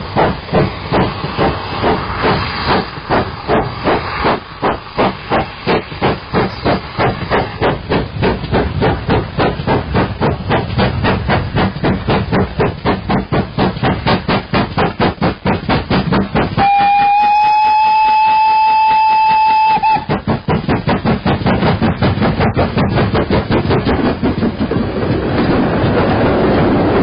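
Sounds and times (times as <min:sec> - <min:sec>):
steam locomotive exhaust chuffs: 0:00.0 - 0:27.0.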